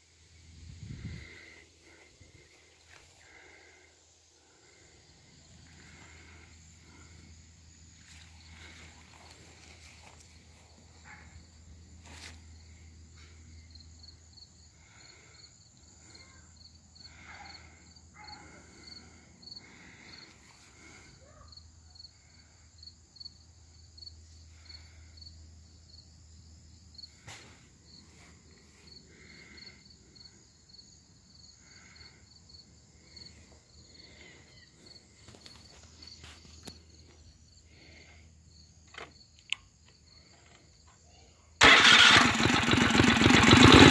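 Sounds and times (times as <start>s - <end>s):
insect chirping: 0.0s - 41.0s.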